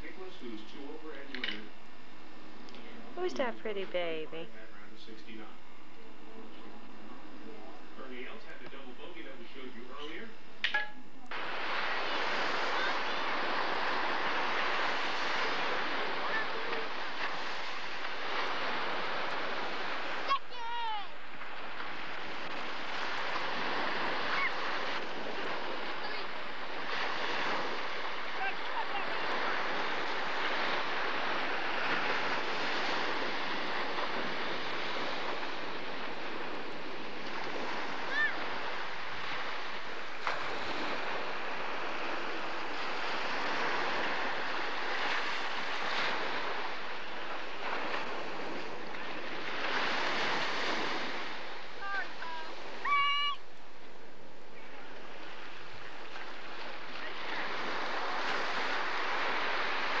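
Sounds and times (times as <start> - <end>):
ocean surf washing ashore: 0.0 - 60.0.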